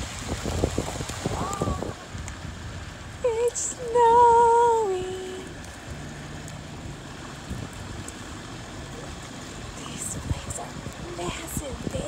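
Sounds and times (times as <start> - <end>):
faint low car hum: 0.0 - 12.0
wind buffeting microphone: 0.0 - 12.0.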